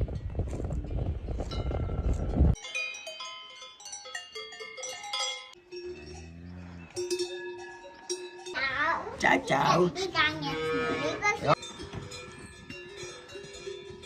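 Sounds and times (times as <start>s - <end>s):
cowbells clanking: 0.9s - 14.0s.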